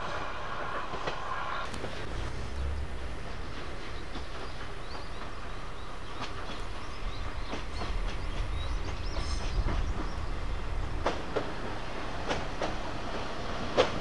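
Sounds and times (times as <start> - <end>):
diesel railcar engine and wheel rumble: 0.0 - 14.0
wheels clicking over rail joints: 0.9 - 14.0.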